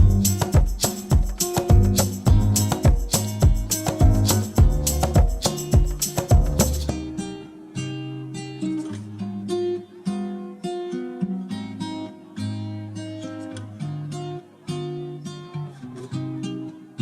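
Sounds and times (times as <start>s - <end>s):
strummed acoustic guitar chords: 0.0s - 17.0s.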